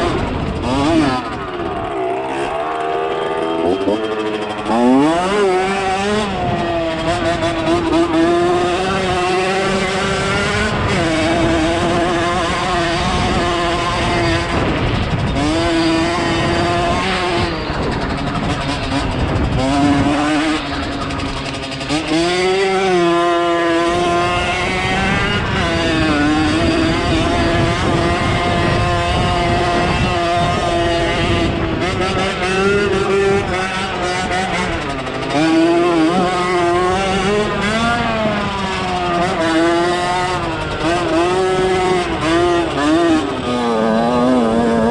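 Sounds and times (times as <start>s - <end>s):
dirt bike engine running hard: 0.0s - 44.9s.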